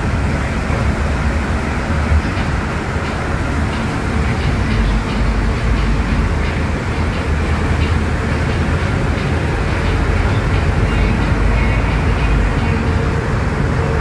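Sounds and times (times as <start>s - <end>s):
bus diesel engine rumble: 0.0s - 14.0s.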